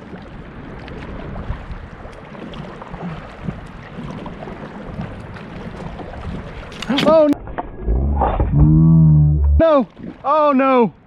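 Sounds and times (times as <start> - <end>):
water noise around a kayak: 0.0 - 11.0
wind: 0.0 - 11.0.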